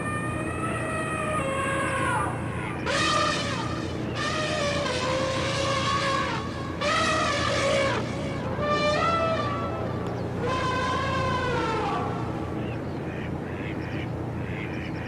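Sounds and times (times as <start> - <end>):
drawn-out horn-like tones: 0.0 - 12.6
steady low hum: 0.0 - 15.0.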